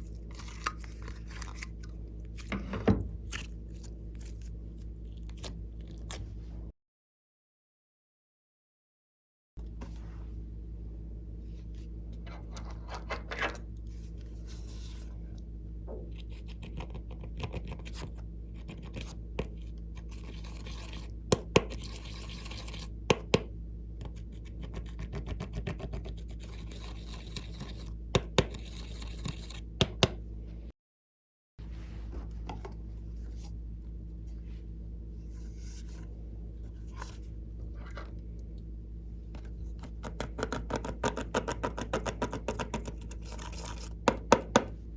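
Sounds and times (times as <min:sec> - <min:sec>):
low background hum: 0:00.0 - 0:06.8, 0:09.6 - 0:30.8, 0:31.6 - 0:44.9.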